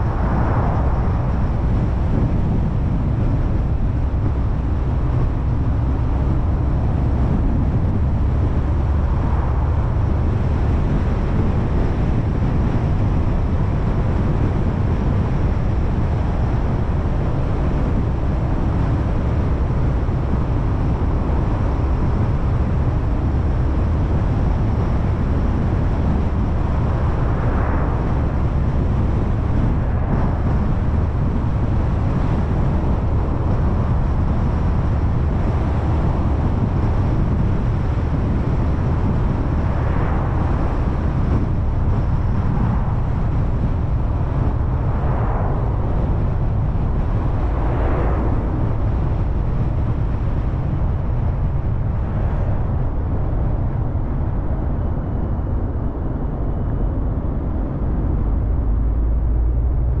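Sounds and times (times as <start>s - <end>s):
car driving at road speed: 0.0s - 60.0s.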